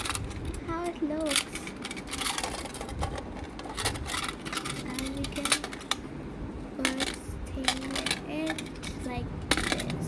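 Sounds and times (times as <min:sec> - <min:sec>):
toy packaging clicks and rustles: 0:00.0 - 0:06.1, 0:06.8 - 0:10.0.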